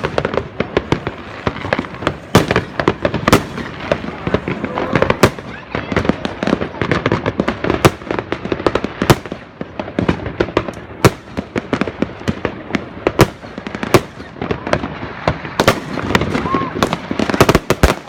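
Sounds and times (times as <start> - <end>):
firework bangs: 0.0 - 18.0
fireworks crackling: 0.0 - 18.0.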